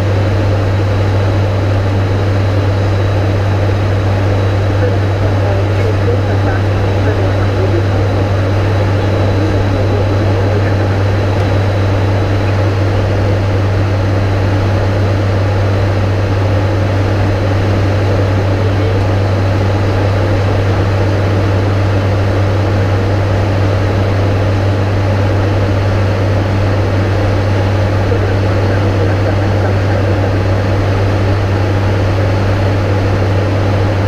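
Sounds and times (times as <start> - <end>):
turboprop engines droning in flight: 0.0 - 34.0.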